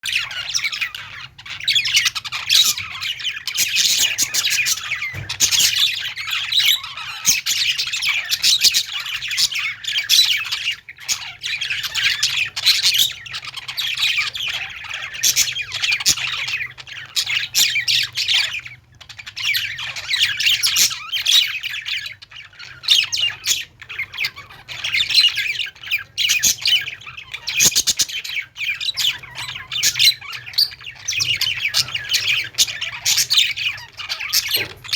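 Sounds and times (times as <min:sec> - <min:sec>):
flock of birds chirping and squawking: 0:00.0 - 0:34.9.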